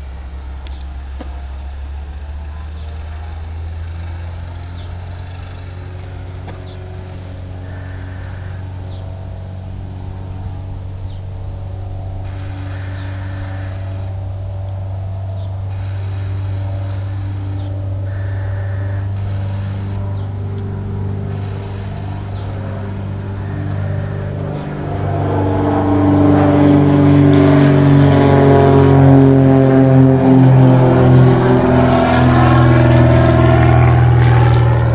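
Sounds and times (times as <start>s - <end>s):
light aircraft engine and propeller: 0.0s - 34.9s.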